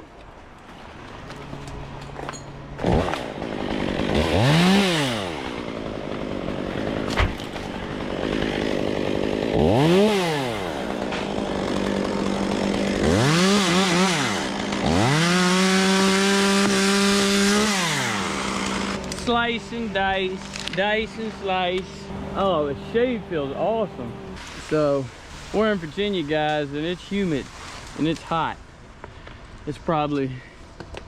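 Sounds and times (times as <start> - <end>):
chainsaw revving and idling: 2.8 - 28.6.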